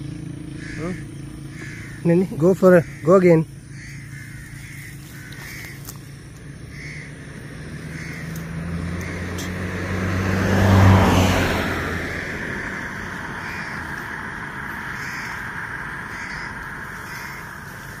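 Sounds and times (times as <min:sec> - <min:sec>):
vehicle engine passing by: 0:00.0 - 0:18.0
crows cawing: 0:00.5 - 0:18.0.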